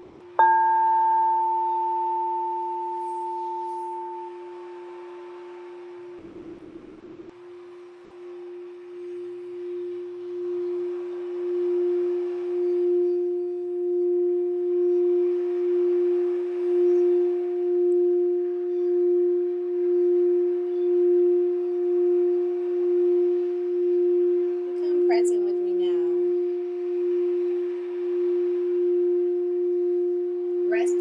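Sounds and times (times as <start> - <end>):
singing bowl tone: 0.0 - 6.6, 7.3 - 31.0.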